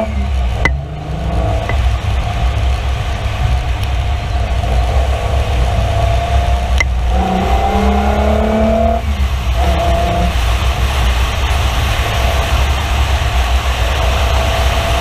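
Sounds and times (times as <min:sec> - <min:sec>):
car engine accelerating: 0:00.0 - 0:15.0
road noise: 0:00.0 - 0:15.0
wind rumble: 0:00.0 - 0:15.0.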